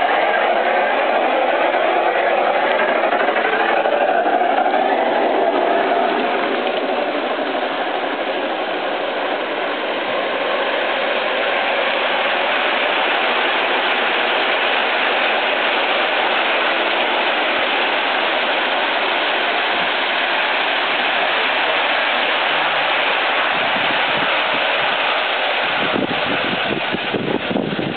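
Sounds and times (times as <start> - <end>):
model train wheels rumbling: 0.0 - 27.9.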